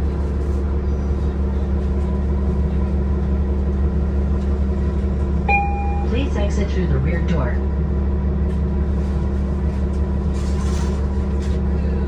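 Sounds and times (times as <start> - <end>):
bus cabin rumble: 0.0 - 12.0
bus diesel engine running: 0.0 - 12.0.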